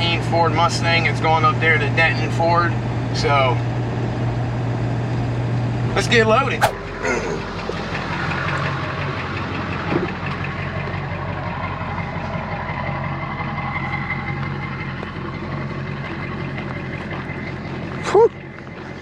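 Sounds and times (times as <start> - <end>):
truck engine running: 3.7 - 19.0.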